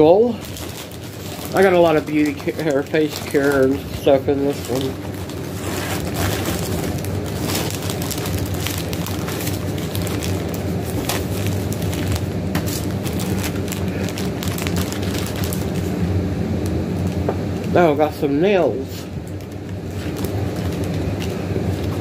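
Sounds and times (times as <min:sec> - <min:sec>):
packaging crinkling: 0:00.0 - 0:17.8, 0:18.7 - 0:22.0
steady low hum: 0:00.0 - 0:22.0.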